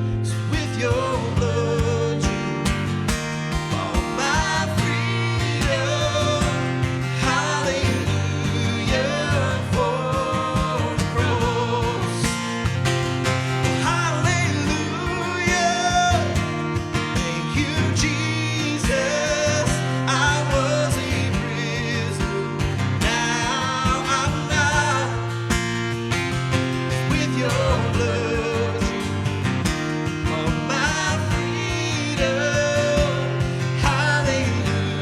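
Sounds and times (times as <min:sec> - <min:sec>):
worship band music: 0:00.0 - 0:35.0.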